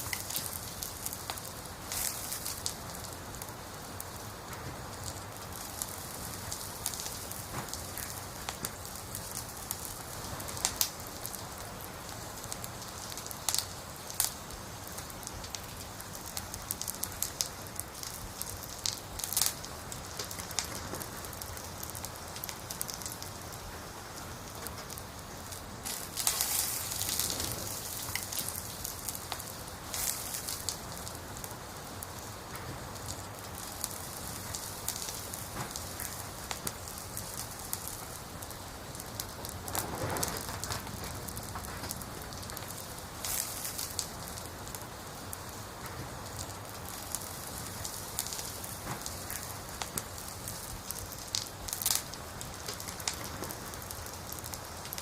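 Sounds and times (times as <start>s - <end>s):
firewood crackling and popping: 0.0s - 55.0s.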